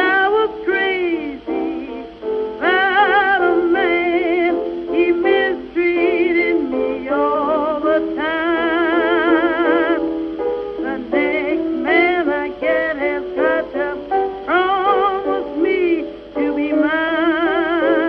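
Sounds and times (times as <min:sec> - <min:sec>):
instrumental accompaniment: 0:00.0 - 0:18.0
slow song with vibrato singing: 0:00.0 - 0:18.0.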